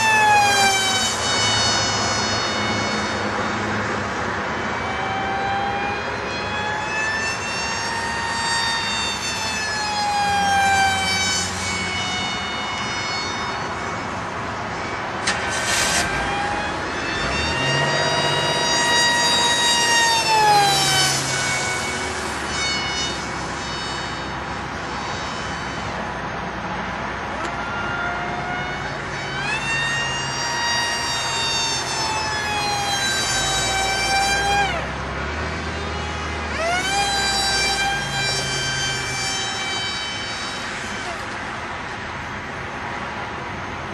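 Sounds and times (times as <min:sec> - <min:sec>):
electric motor and propeller whine: 0:00.0 - 0:43.9.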